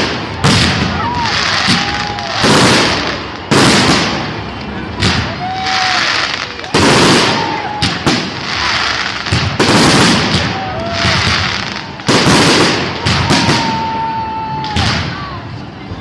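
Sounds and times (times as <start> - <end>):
firework bursts: 0.0 - 15.2
firework whistling: 0.0 - 15.2
fireworks crackling: 0.0 - 15.8.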